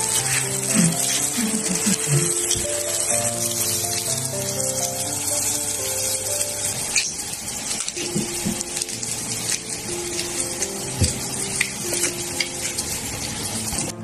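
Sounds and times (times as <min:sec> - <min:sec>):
food sizzling on a griddle: 0:00.0 - 0:13.9
slow background music: 0:00.0 - 0:14.0.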